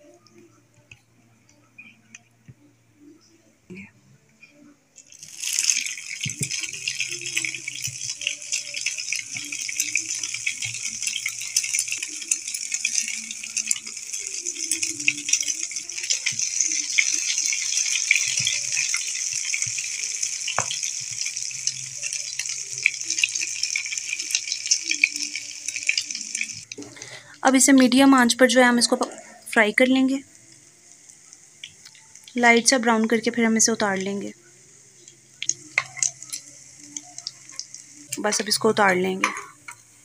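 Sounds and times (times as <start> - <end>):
bread sizzling in hot oil: 5.0 - 28.9, 29.5 - 40.0.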